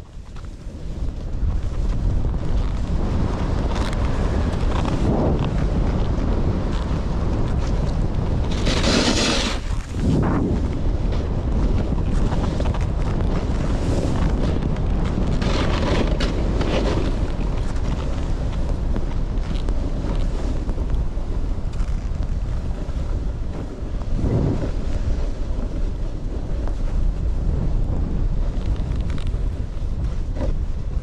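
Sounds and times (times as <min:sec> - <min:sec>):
snowboard scraping on snow: 0:00.0 - 0:31.0
wind buffeting microphone: 0:00.0 - 0:31.0.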